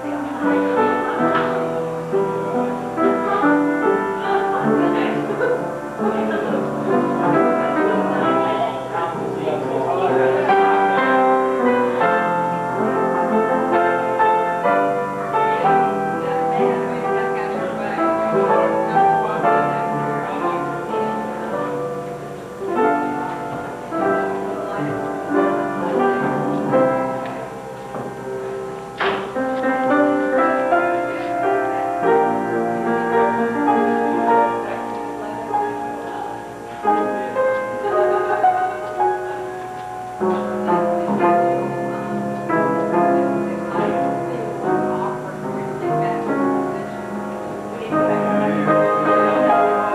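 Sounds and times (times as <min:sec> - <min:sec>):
slow piano music: 0:00.0 - 0:49.9.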